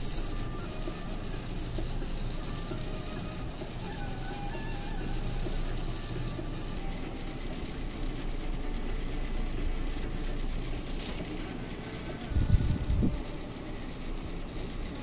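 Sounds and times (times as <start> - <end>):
small motor gears whirring: 0.0 - 15.0.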